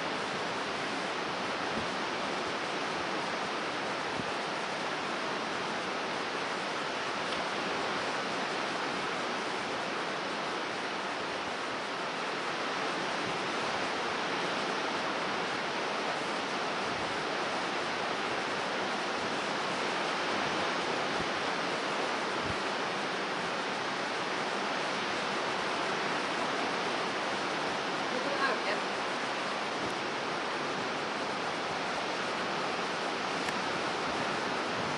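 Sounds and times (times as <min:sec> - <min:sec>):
sea waves breaking on rocks: 0:00.0 - 0:34.9
strong wind: 0:00.0 - 0:34.9.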